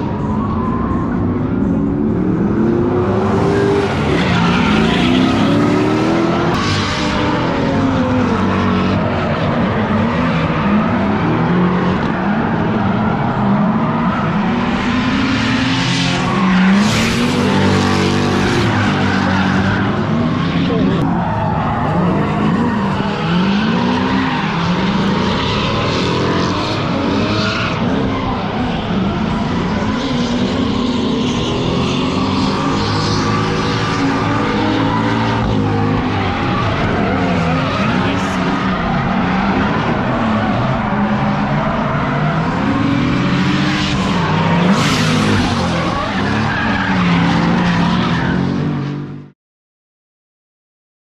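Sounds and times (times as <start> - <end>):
car engine revving: 0.0 - 49.2.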